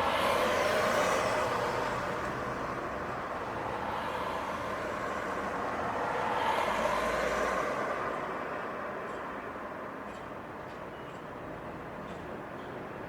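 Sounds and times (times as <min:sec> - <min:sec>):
road noise from passing vehicles: 0:00.0 - 0:10.6.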